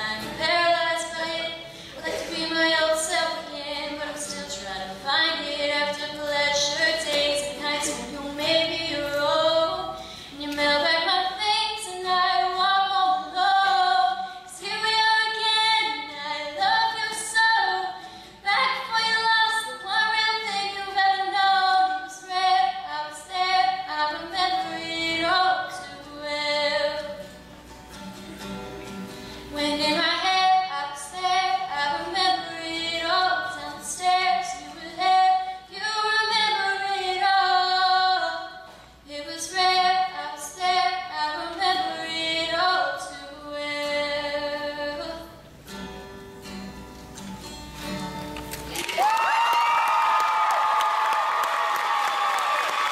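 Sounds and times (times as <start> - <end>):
girl singing slow song: 0.0 - 27.4, 29.2 - 45.6.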